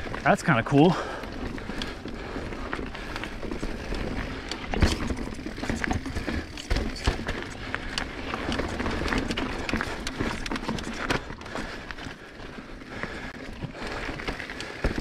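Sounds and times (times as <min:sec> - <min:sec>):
bike tyres rumbling over dirt: 0:00.0 - 0:15.0
bike knocks and rattles: 0:01.2 - 0:11.9, 0:12.9 - 0:15.0.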